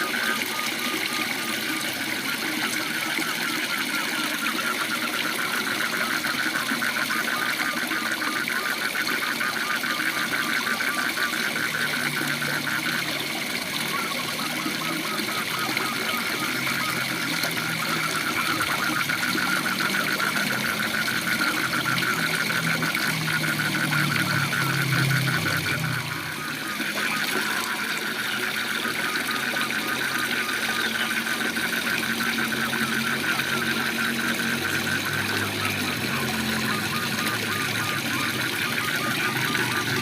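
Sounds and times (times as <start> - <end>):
frog high trill: 0.0 - 40.0
frogs croaking: 0.0 - 40.0.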